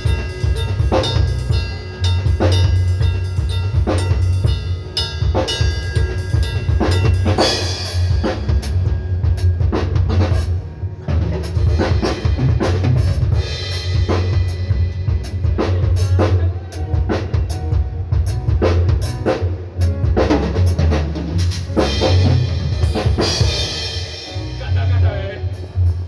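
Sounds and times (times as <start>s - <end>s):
deep bass: 0.0s - 26.0s
drum kit bass and snare hits: 0.0s - 26.0s.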